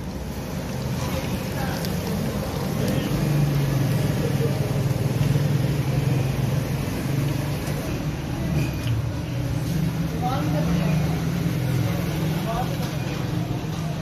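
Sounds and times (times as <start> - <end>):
hot oil sizzling in a wok: 0.0 - 14.0.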